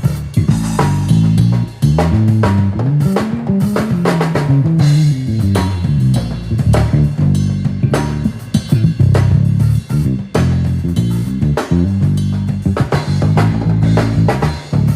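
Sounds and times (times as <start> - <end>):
drum kit groove: 0.0 - 14.9
electric bass guitar: 0.0 - 14.9.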